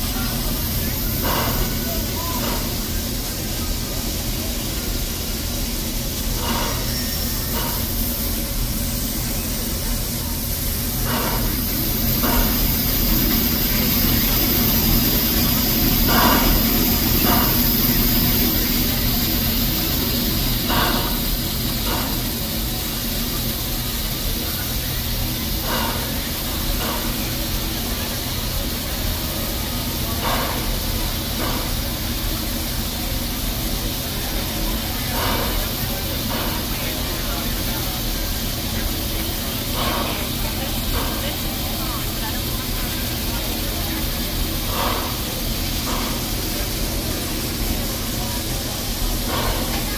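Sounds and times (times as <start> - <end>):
short steam bursts: 0.0 - 49.9
steam hissing: 0.0 - 49.9.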